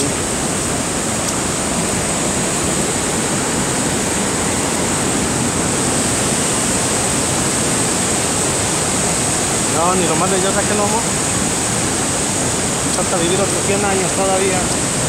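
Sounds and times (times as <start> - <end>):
rushing white water: 0.0 - 15.0.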